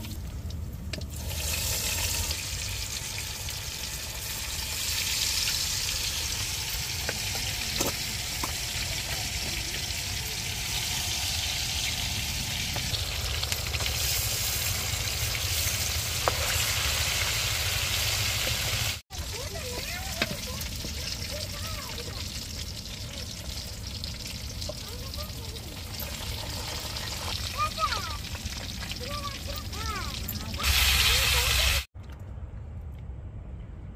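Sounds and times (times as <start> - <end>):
chicken sizzling in hot oil: 1.0 - 31.9.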